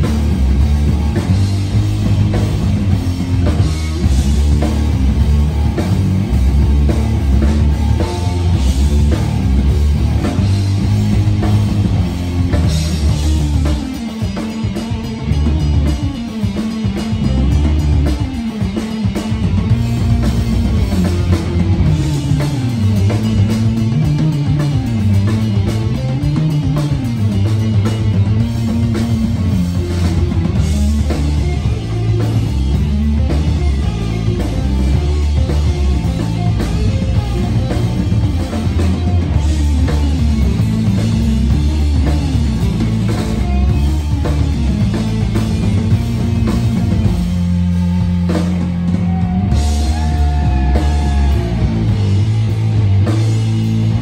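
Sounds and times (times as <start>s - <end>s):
bass guitar line: 0.0s - 54.0s
rock band playing: 0.0s - 54.0s.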